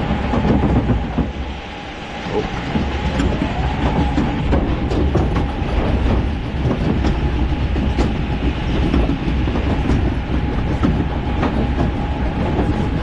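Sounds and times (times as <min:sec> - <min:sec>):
clacks and knocks: 0:00.0 - 0:01.6, 0:02.2 - 0:13.0
mechanical rumble of lift conveyor: 0:00.0 - 0:13.0.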